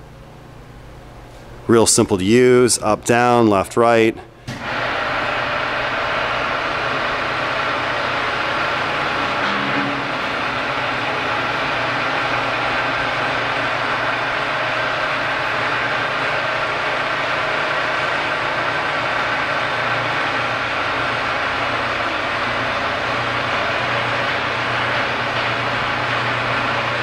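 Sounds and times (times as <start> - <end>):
electric motors humming: 4.4 - 27.0.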